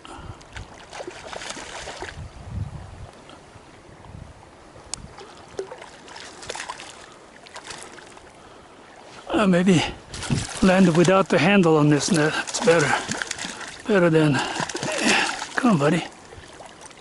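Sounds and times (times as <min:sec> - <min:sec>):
water splashing and sloshing: 0:00.0 - 0:02.4, 0:04.8 - 0:17.0.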